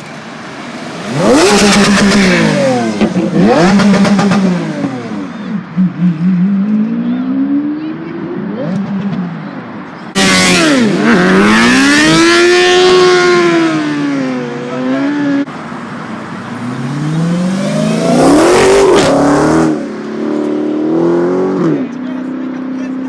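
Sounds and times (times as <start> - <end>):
sports car engines revving: 0.0 - 23.0.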